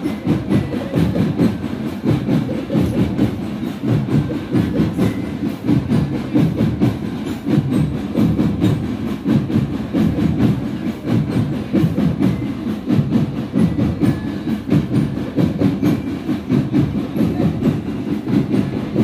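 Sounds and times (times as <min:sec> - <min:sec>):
rhythmic marching drums: 0:00.0 - 0:19.0.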